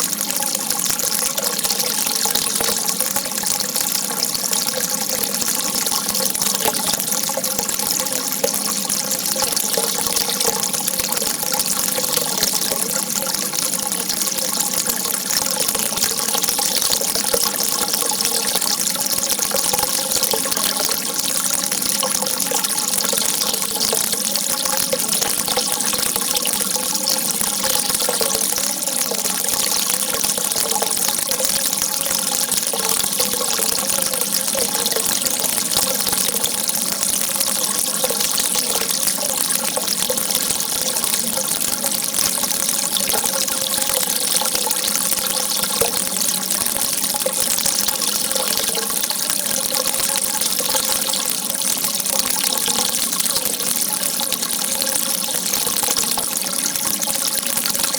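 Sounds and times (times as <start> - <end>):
water jet gushing: 0.0 - 57.9.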